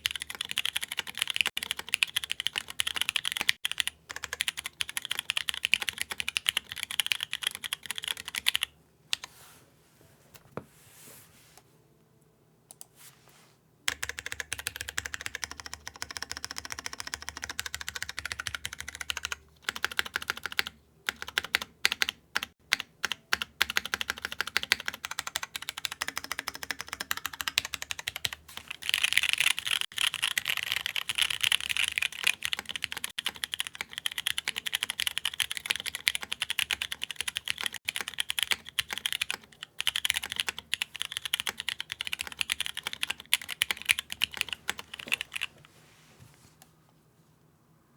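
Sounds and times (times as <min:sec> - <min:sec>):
mechanical keyboard typing: 0:00.0 - 0:09.3, 0:13.9 - 0:45.5.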